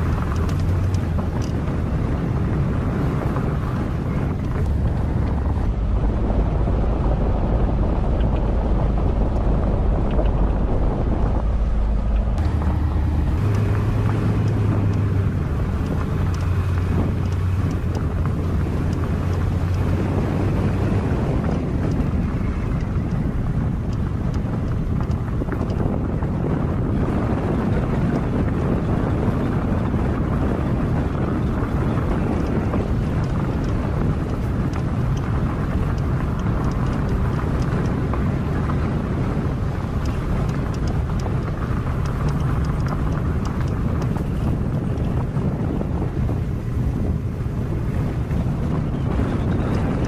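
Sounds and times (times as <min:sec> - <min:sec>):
engine and tyres on gravel: 0:00.0 - 0:50.0
wind buffeting microphone: 0:00.0 - 0:50.0.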